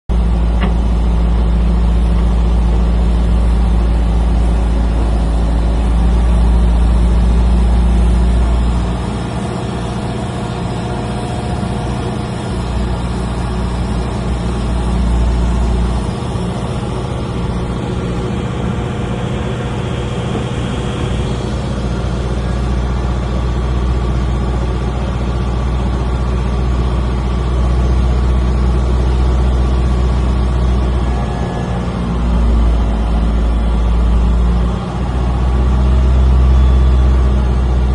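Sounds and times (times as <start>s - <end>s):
jet airliner low rumble: 0.1s - 37.9s.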